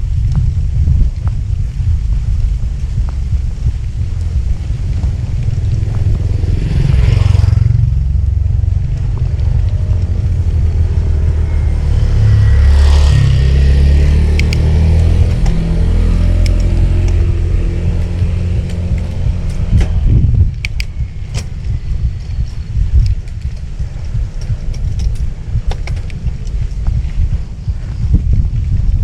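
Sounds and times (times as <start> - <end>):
heavy wind buffeting microphone: 0.0 - 29.0
motor vehicles passing: 0.0 - 29.0.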